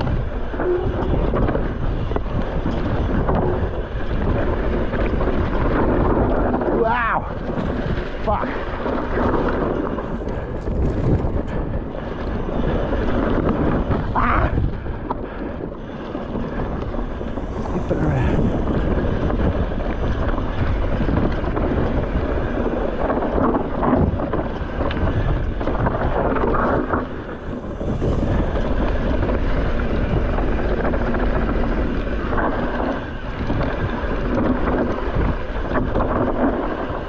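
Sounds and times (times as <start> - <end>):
bike thumps and rattles: 0.0 - 37.0
wind rushing over microphone: 0.0 - 37.0.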